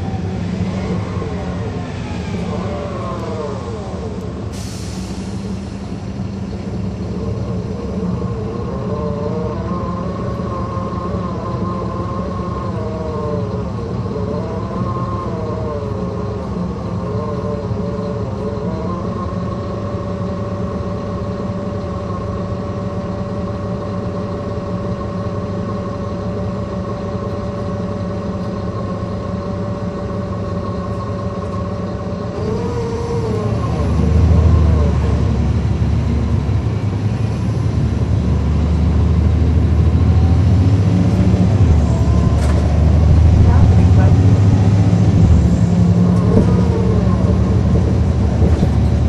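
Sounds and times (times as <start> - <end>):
axle gear whine: 0.0 - 49.0
bus diesel engine drone: 0.0 - 49.0.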